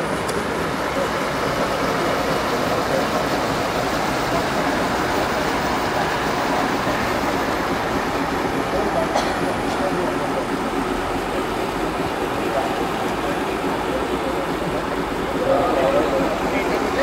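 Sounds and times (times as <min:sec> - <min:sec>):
loud rushing background noise: 0:00.0 - 0:17.0.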